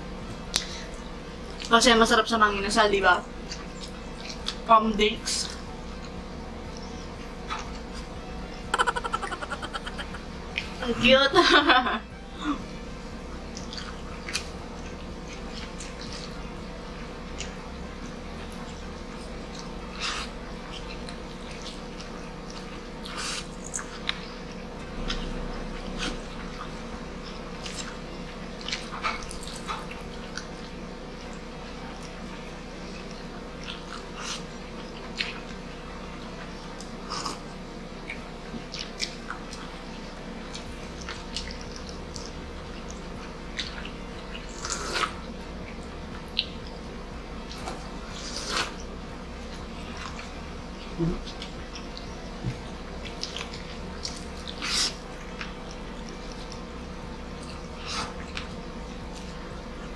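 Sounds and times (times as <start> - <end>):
steady low hum: 0.0 - 59.9
chewing and lip-smacking: 0.4 - 1.8, 3.4 - 4.7, 5.4 - 10.8, 13.4 - 59.9.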